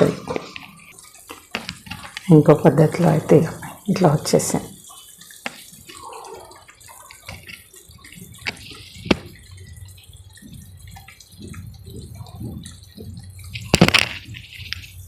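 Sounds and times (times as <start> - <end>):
liquid dripping and splashing: 0.0 - 15.0.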